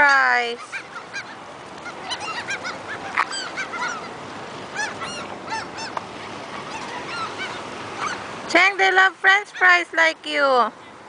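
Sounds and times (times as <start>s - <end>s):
flock of birds crying: 0.0s - 11.0s.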